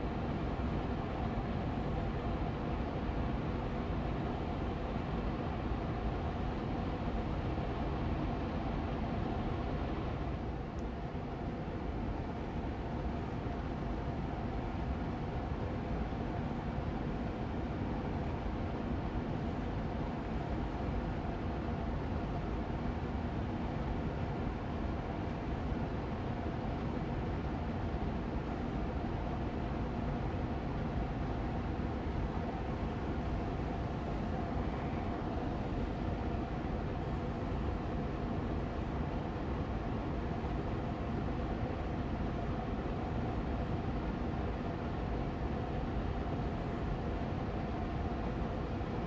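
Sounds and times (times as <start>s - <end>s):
air purifier fan running: 0.0s - 49.0s.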